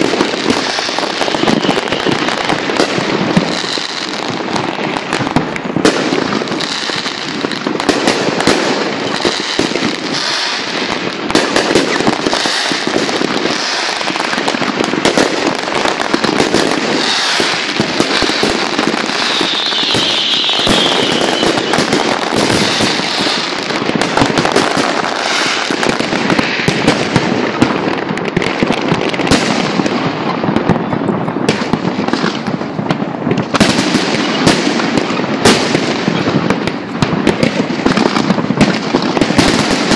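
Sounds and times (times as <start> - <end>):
fireworks bangs and bursts: 0.0 - 39.9.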